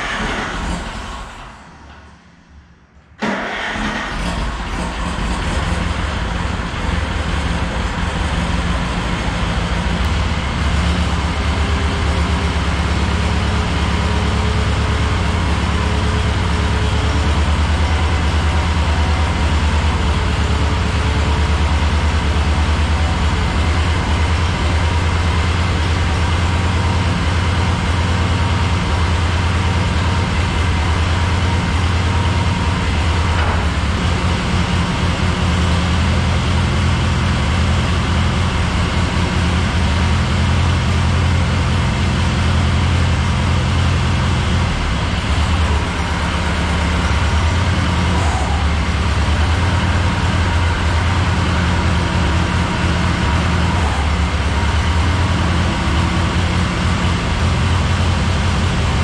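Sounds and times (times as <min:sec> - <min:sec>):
forklift engine running: 0:00.0 - 0:59.0.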